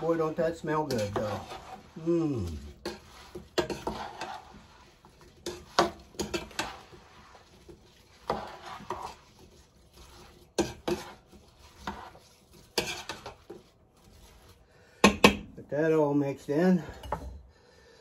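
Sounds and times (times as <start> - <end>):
spoon scraping against pot: 0.0 - 15.4.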